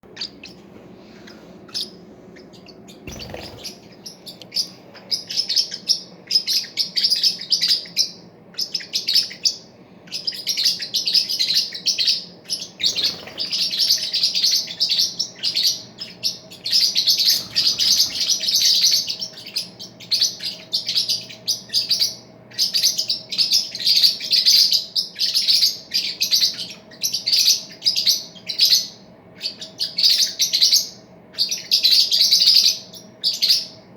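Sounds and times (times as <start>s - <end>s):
parrots chirping: 0.0s - 33.8s.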